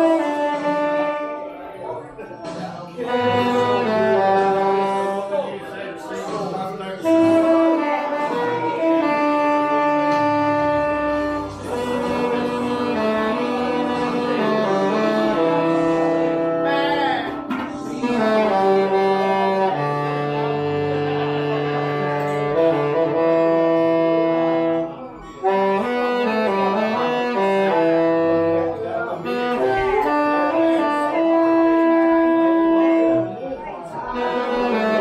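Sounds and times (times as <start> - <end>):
saxophone slow melody: 0.0 - 35.0.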